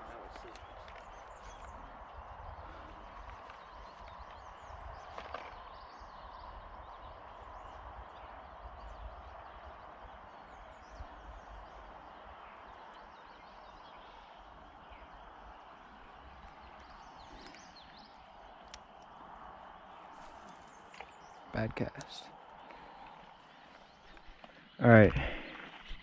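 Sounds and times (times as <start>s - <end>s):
creek water rushing: 0.0s - 25.0s
wind gusting on microphone: 0.0s - 26.0s.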